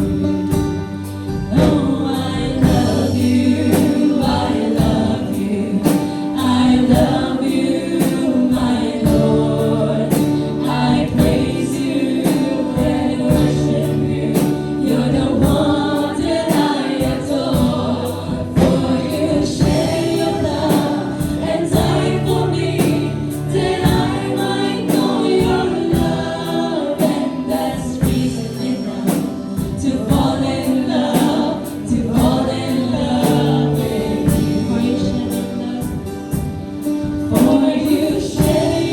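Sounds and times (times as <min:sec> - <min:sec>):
choir singing with band: 0:00.0 - 0:38.9.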